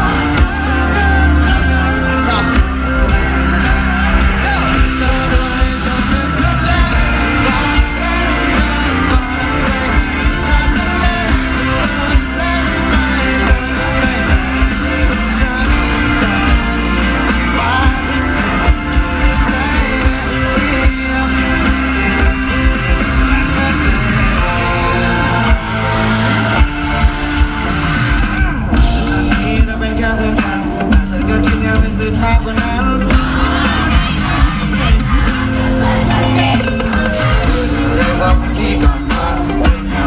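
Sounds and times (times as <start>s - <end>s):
bass guitar: 0.0s - 40.0s
drums beating: 0.0s - 40.0s
electric guitar: 0.0s - 40.0s
person singing: 0.0s - 40.0s.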